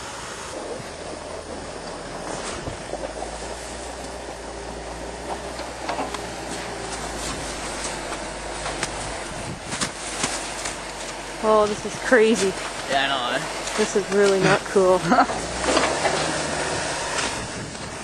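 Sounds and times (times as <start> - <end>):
tracked vehicle engine humming: 0.0 - 18.0.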